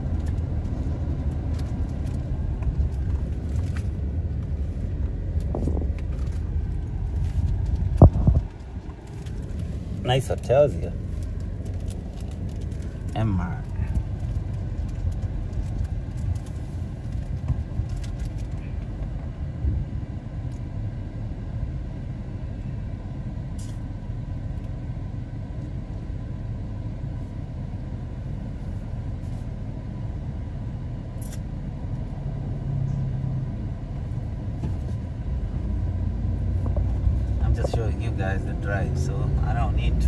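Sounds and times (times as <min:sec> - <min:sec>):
car cabin rumble: 0:00.0 - 0:40.0.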